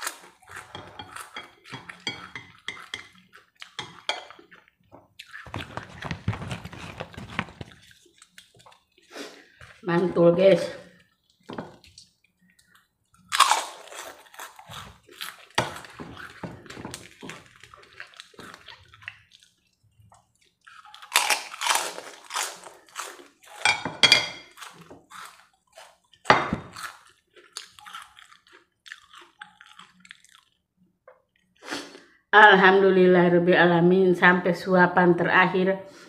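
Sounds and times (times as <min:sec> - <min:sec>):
person chewing noodles: 0:00.0 - 0:06.2, 0:07.1 - 0:09.8, 0:10.8 - 0:23.7, 0:24.4 - 0:32.1.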